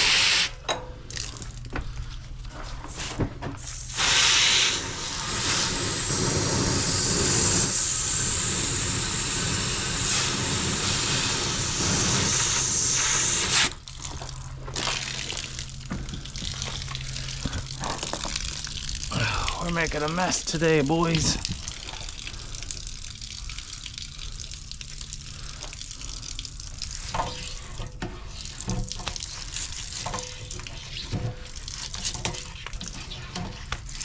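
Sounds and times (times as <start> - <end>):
water hose jetting into tank: 0.0 - 1.6, 2.8 - 34.0
water draining from tank: 3.8 - 34.0.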